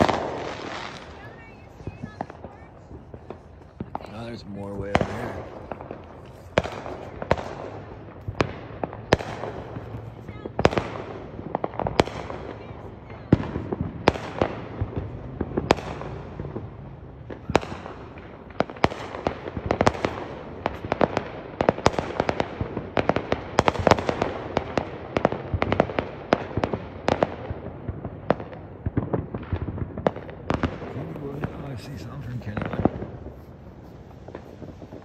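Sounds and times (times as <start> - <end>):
fireworks banging: 0.0 - 35.0.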